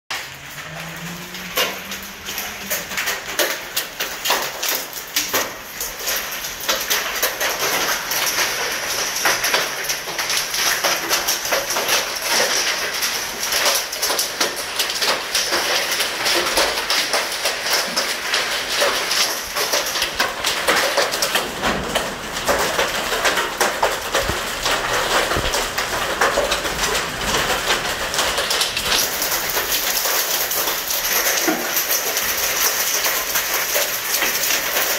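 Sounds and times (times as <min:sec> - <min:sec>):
hail hitting paving glass and metal: 0:00.1 - 0:34.9.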